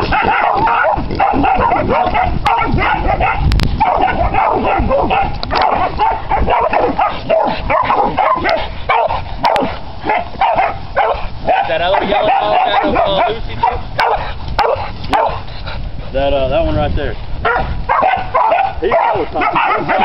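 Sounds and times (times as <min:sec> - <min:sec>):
puppies barking and yipping: 0:00.0 - 0:16.0, 0:17.4 - 0:20.0.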